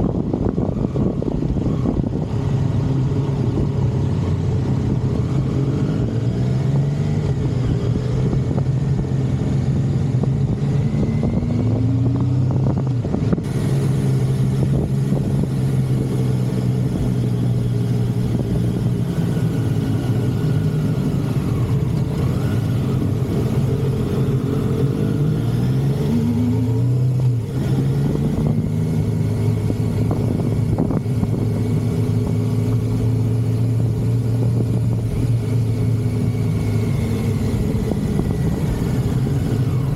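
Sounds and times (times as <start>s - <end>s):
motorcycle engine accelerating: 0.0s - 39.9s
steady rushing noise: 0.0s - 39.9s.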